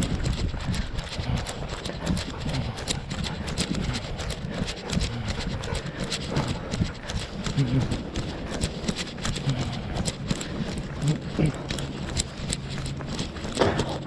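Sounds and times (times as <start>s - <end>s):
running footsteps on gravel: 0.0s - 14.0s.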